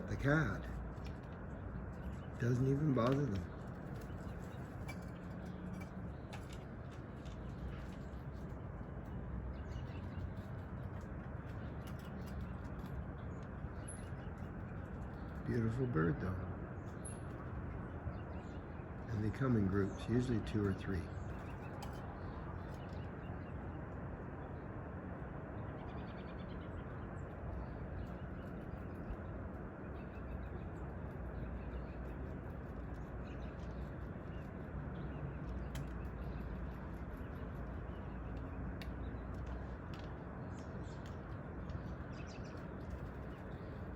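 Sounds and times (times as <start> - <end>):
bird calls: 0.0 - 24.6, 25.6 - 43.9
low outdoor rumble: 0.0 - 43.9.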